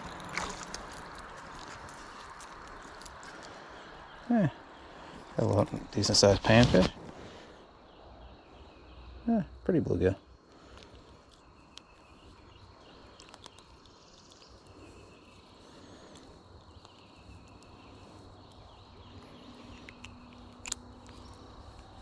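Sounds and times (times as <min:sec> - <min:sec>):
high insect drone: 0:00.0 - 0:22.0
faint bird chirps: 0:01.8 - 0:22.0.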